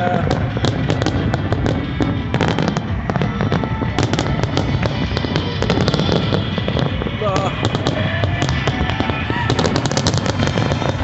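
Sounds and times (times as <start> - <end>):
continuous low rumble: 0.0 - 11.0
fireworks crackling and banging: 0.0 - 11.0.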